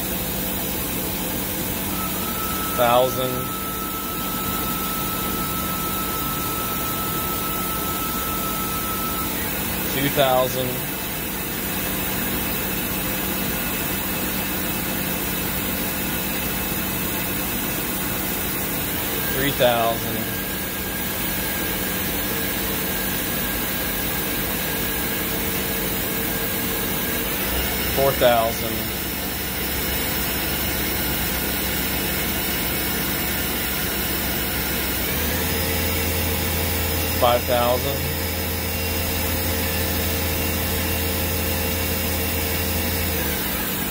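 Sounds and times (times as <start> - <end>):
lathe spindle hum: 0.0 - 43.9.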